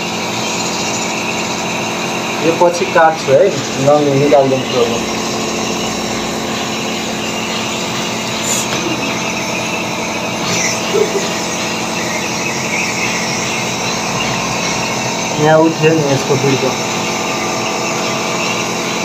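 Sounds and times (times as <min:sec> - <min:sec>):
mechanical hum and hiss: 0:00.0 - 0:19.0.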